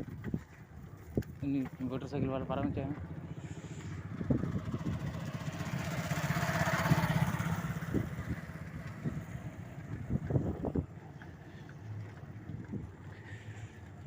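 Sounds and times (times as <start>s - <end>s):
motorcycle passing by: 1.9s - 14.0s.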